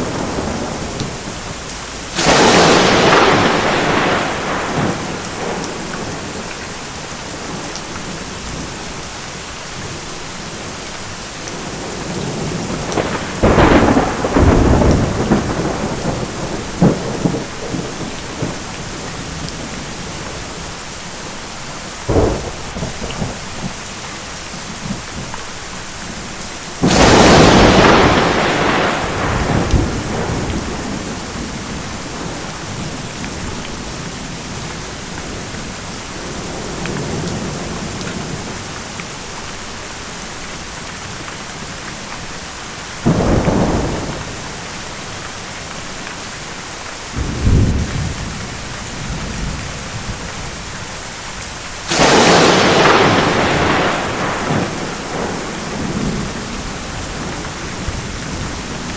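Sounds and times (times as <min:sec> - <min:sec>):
thunder clapping and rumbling: 0:00.0 - 0:08.8, 0:11.4 - 0:20.8, 0:22.0 - 0:25.4, 0:26.1 - 0:39.1, 0:43.0 - 0:44.7, 0:47.1 - 0:58.9
steady rain: 0:00.0 - 0:58.9.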